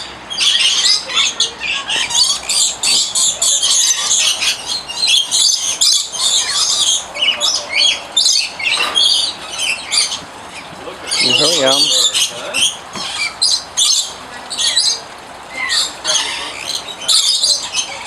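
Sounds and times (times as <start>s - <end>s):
flock of parrots screeching: 0.0s - 18.0s.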